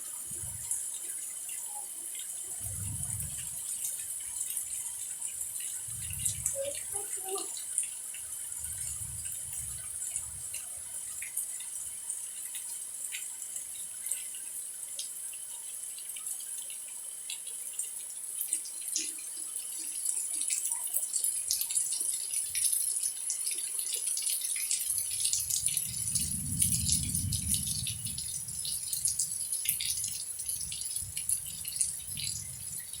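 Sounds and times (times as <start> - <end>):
rain pattering: 0.0 - 33.0.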